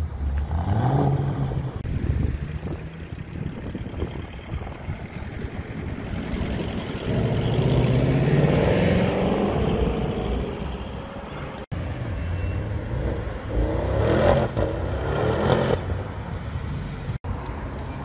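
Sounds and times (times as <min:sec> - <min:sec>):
car revving: 0:00.2 - 0:11.7, 0:12.6 - 0:16.9
car accelerating: 0:00.3 - 0:11.7, 0:12.8 - 0:16.2.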